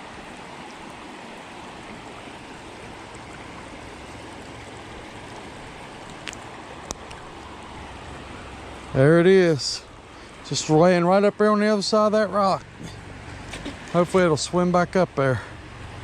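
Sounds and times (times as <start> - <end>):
creek water running over rocks: 0.0 - 16.0.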